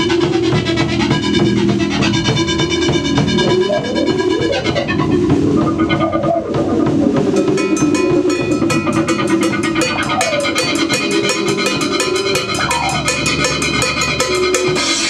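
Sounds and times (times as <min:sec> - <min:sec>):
held low tone: 0:00.0 - 0:14.8
fast drum beat: 0:00.0 - 0:15.0
notes sliding down in pitch: 0:00.0 - 0:15.0.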